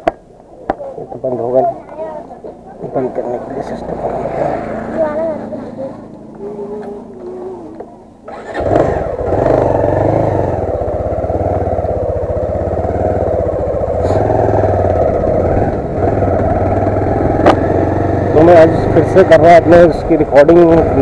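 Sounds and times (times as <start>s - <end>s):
motorcycle engine running: 0.8s - 21.0s.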